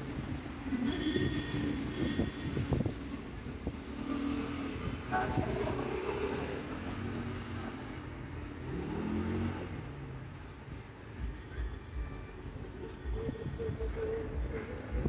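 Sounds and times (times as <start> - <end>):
rumble of vehicles: 0.0 - 15.0.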